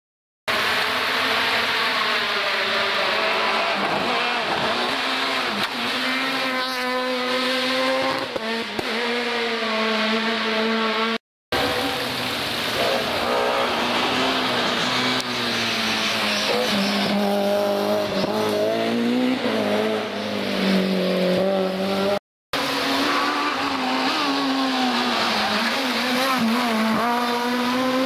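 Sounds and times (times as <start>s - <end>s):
rally car engines at full throttle: 0.5s - 28.0s.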